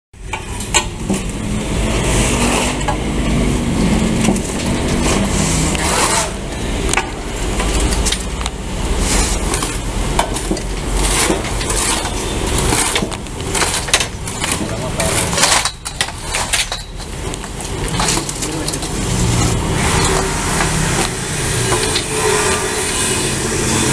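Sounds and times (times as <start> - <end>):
shovel scraping concrete mix: 0.4 - 23.9.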